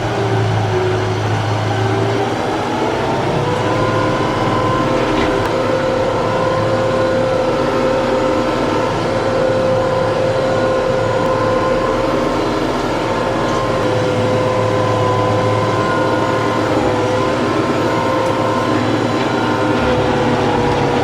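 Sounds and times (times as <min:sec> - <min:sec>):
tractor diesel engine whining: 0:00.0 - 0:21.0.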